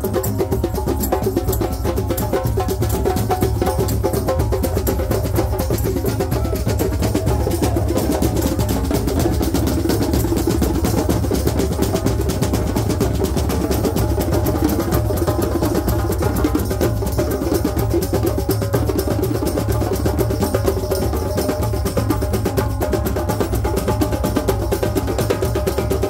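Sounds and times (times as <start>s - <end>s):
hand drums playing: 0.0s - 26.0s.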